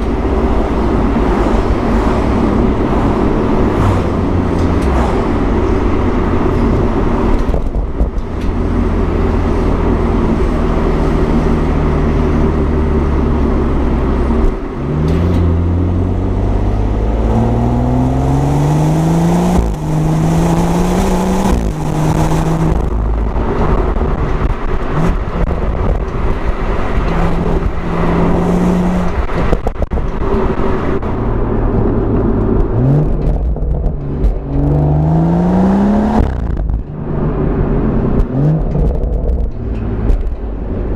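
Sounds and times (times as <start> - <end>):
car engine accelerating through gears: 0.0 - 40.9.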